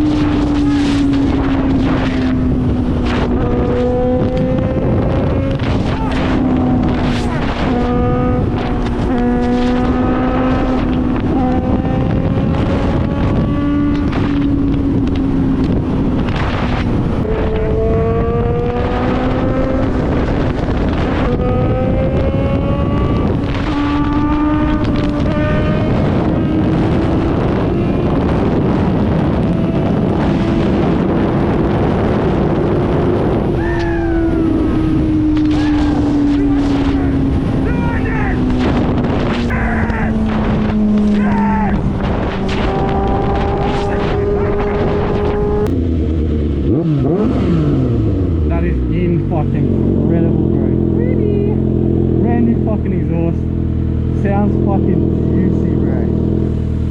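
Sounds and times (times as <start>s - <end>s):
motorcycle engine accelerating: 0.0s - 56.9s
wind on microphone: 0.0s - 56.9s.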